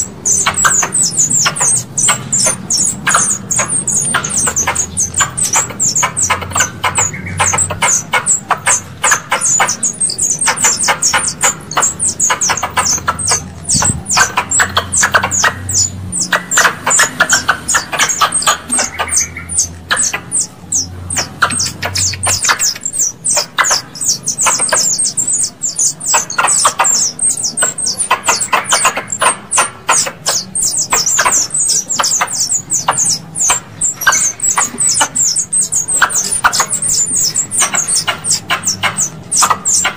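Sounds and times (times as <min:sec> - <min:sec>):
high-pitched squirrel chirps: 0:00.0 - 0:39.9.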